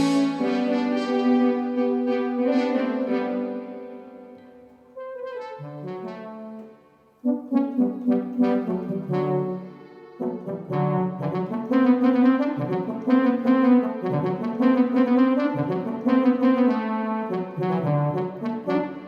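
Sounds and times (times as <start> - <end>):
brass-like synthesizer melody: 0.0 - 19.0.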